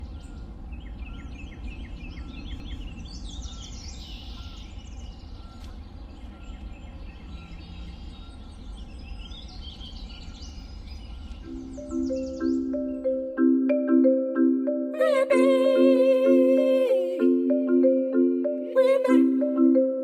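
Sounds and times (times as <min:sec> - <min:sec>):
birds singing and chirping: 0:00.0 - 0:20.0.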